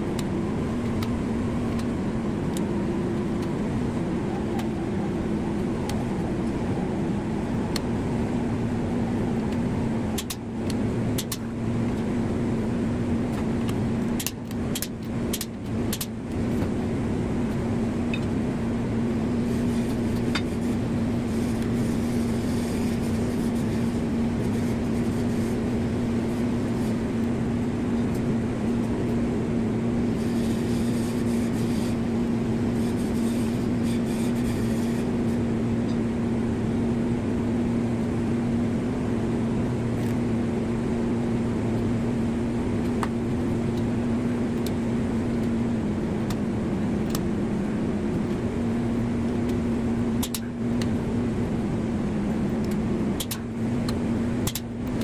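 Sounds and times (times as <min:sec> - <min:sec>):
machinery humming: 0:00.0 - 0:55.0.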